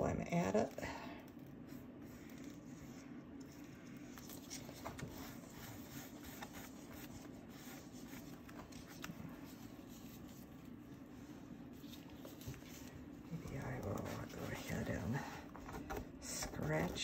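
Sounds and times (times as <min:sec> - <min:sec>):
steady low hum: 0:00.0 - 0:17.0
paintbrush brushing on paper: 0:01.6 - 0:15.4.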